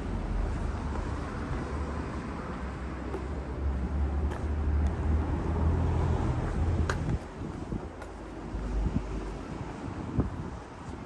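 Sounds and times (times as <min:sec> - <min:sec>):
motor vehicle rumble: 0:00.0 - 0:11.0
street noise: 0:00.0 - 0:11.0.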